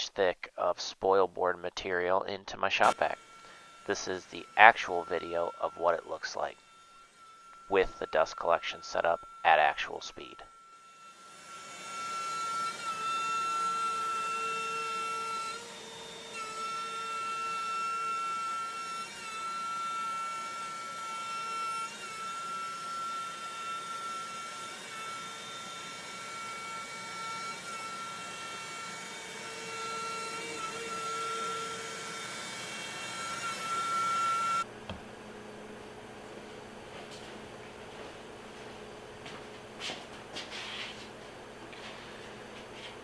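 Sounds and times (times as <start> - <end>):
router high whine: 2.8 - 43.0.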